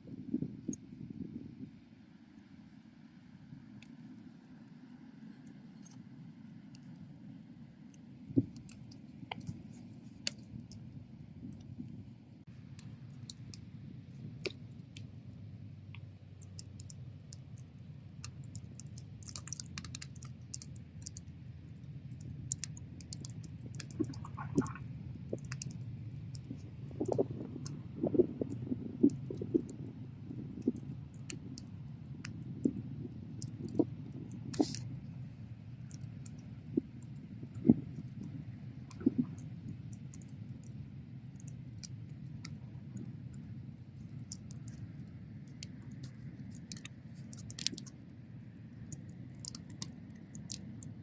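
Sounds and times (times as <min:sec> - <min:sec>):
low rumble of flames: 0:00.0 - 0:51.0
bonfire crackling: 0:06.8 - 0:51.0.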